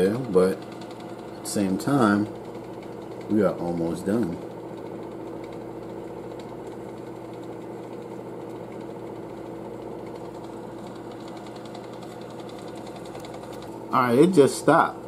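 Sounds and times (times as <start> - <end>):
oven convection fan humming: 0.0 - 15.0.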